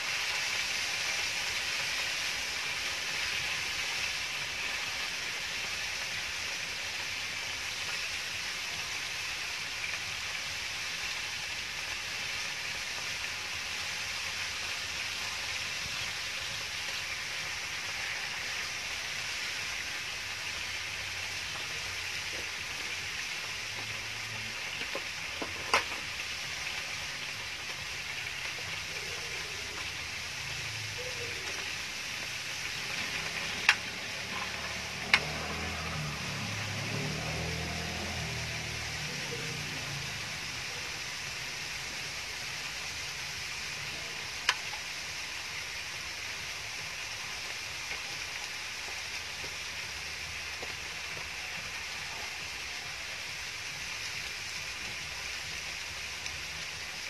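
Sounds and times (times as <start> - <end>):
chicken sizzling on grill pan: 0.0 - 57.0.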